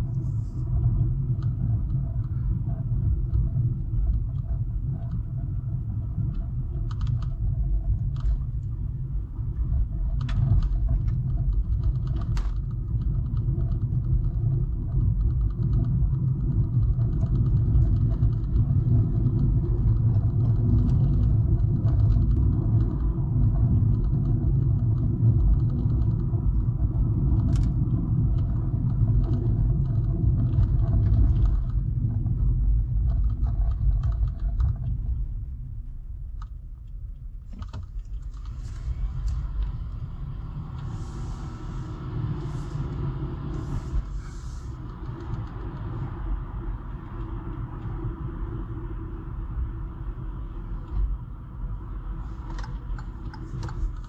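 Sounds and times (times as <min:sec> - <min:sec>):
faint clicks and rattles: 0:00.0 - 0:41.0, 0:41.9 - 0:54.0
car engine and tyres rumbling: 0:00.0 - 0:54.0.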